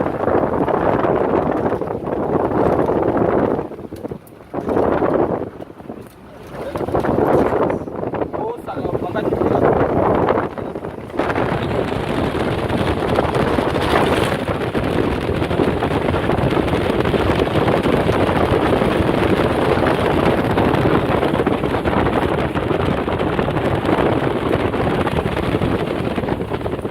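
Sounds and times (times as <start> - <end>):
moving vehicle running: 0.0 - 26.9
wind buffeting microphone: 0.0 - 26.9.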